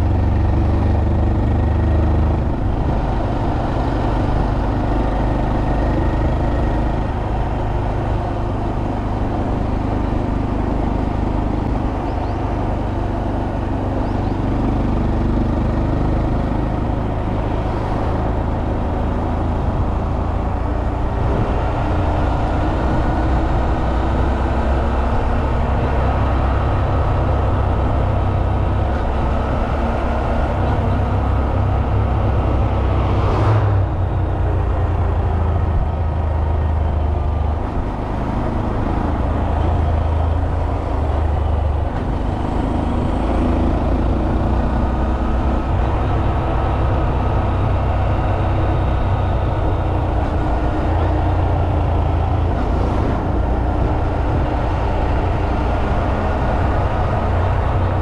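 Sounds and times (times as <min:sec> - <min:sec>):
motorcycle engine rumble: 0:00.0 - 0:58.0.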